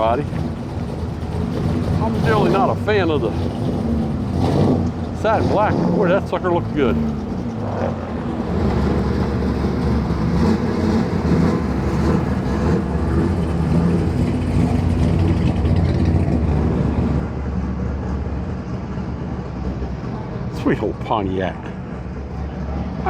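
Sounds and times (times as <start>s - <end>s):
car engine running steadily: 0.0s - 22.8s.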